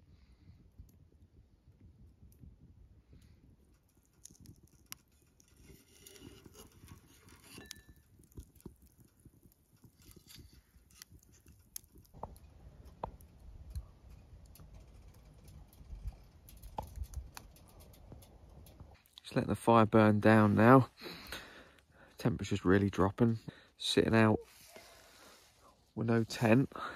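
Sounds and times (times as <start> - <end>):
wood fire crackling and popping: 0.1 - 26.9.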